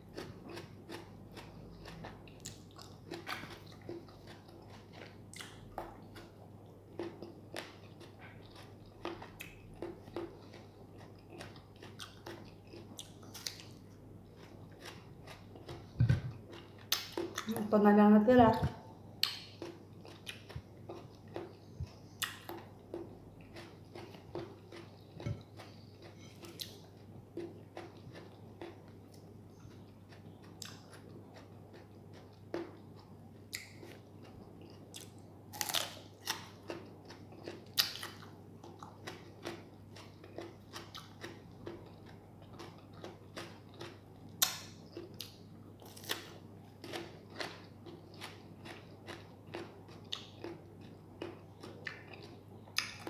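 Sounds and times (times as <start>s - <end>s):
person chewing cucumber crunching: 0.0s - 17.6s, 19.2s - 53.0s
faint low hum: 0.0s - 53.0s.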